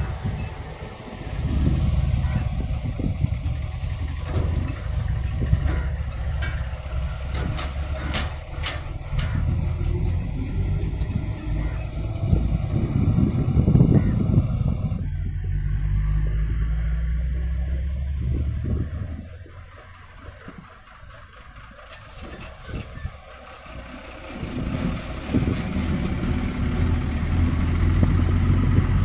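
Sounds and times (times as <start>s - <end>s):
truck engine rumble passing: 0.0s - 29.0s
tyre noise on road: 0.0s - 29.0s.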